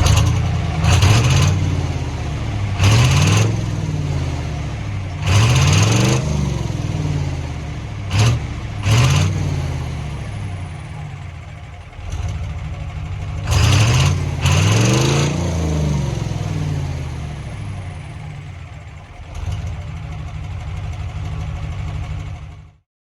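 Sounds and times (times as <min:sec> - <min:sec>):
diesel truck engine revving and idling: 0:00.0 - 0:22.8.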